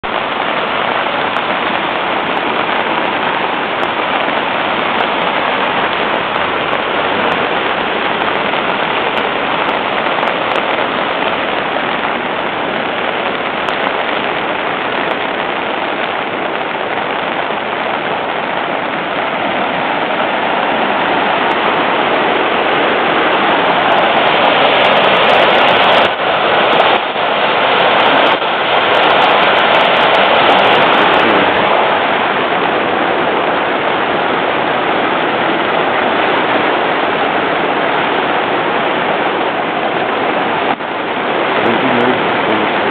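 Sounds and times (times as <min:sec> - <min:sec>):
water rushing over rocks: 0:00.0 - 0:42.9.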